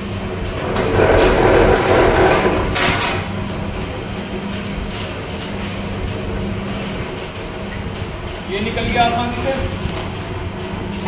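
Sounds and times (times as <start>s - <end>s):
wire stripping machine humming: 0.0s - 11.0s.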